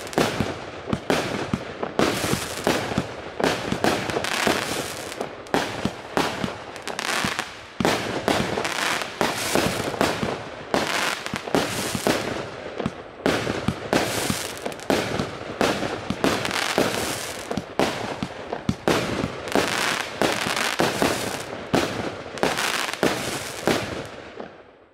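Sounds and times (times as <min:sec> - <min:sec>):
noisy firework wash: 0:00.0 - 0:24.1.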